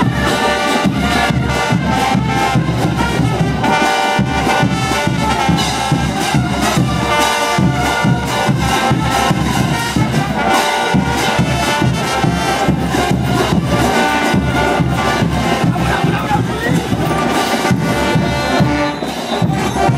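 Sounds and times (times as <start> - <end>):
steady drum beat: 0.0 - 19.9
trumpets and trombones: 0.0 - 19.9.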